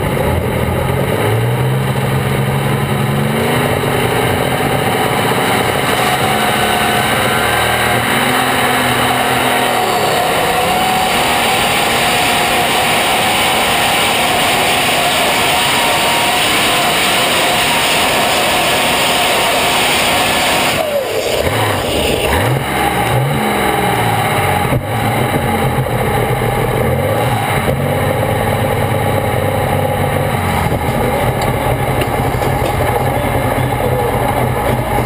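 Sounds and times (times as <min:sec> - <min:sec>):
tractor diesel engine revving: 0:00.0 - 0:35.0.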